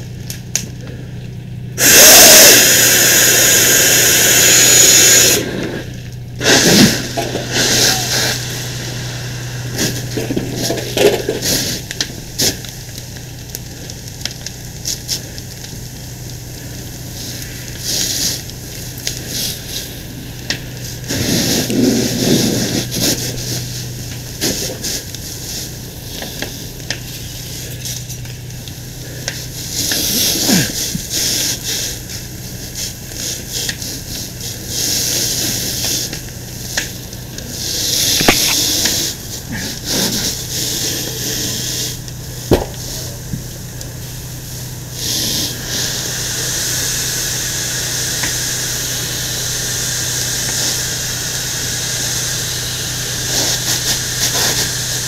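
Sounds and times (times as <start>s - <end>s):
fire popping and crackling: 0.0s - 55.0s
steady low hum: 0.0s - 55.0s
water spray hissing on fire: 1.8s - 55.0s.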